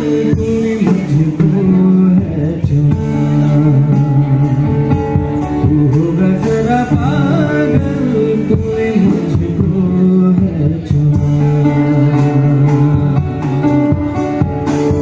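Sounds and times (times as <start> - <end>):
live band playing: 0.0 - 15.0
man singing into microphone: 0.0 - 15.0.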